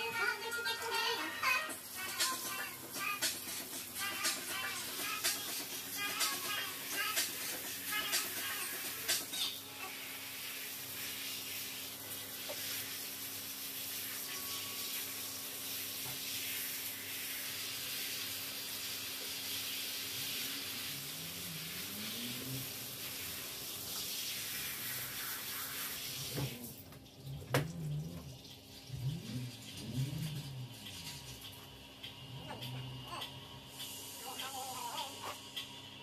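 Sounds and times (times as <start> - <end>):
shower sprayer water hissing: 0.0 - 26.9, 33.4 - 36.0.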